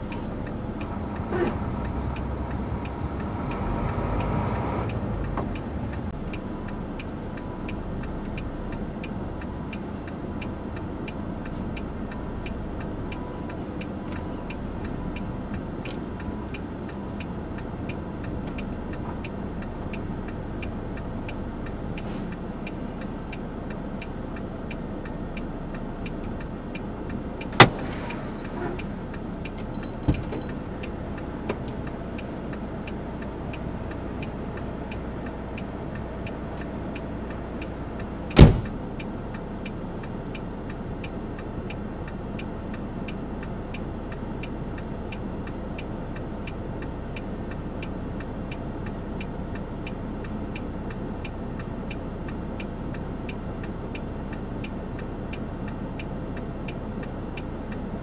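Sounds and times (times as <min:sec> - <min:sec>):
truck engine and road noise: 0:00.0 - 0:58.0
faint regular ticking: 0:00.1 - 0:27.6, 0:28.4 - 0:58.0.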